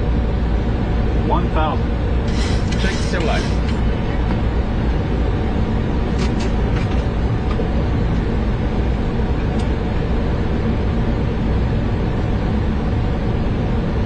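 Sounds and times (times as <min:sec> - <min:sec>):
rumble of airflow and engines: 0:00.0 - 0:14.0.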